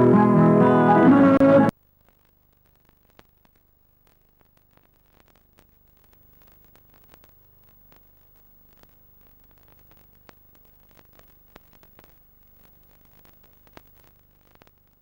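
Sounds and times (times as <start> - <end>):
tape hiss: 0.0 - 15.0
clicks and crackles: 1.7 - 15.0.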